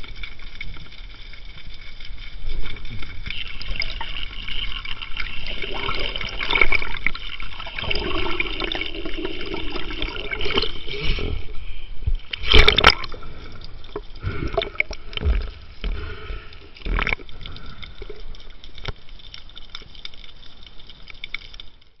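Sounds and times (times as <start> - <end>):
water sloshing and bubbling: 0.0 - 22.0.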